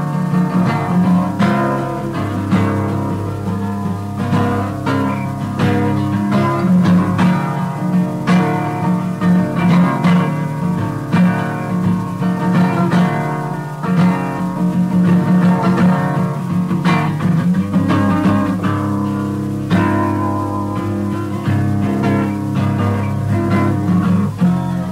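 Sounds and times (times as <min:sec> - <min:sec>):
acoustic guitar plucking: 0:00.0 - 0:24.9.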